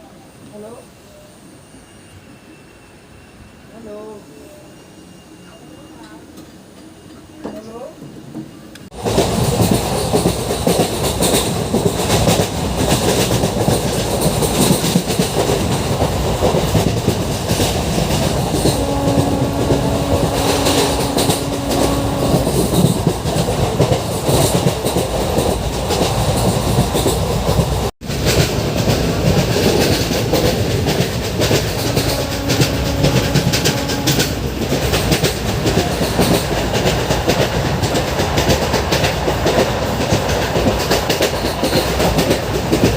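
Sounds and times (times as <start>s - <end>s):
train wheels rumbling on track: 0.0s - 42.9s.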